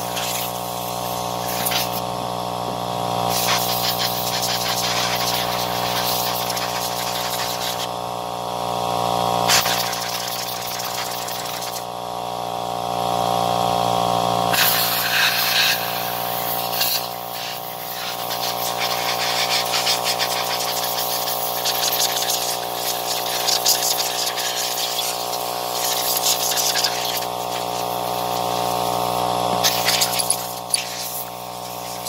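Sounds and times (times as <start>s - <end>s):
air blow gun hissing: 0.0s - 2.2s, 3.2s - 7.9s, 9.4s - 11.8s, 14.5s - 32.0s
steady machine hum: 0.0s - 32.0s.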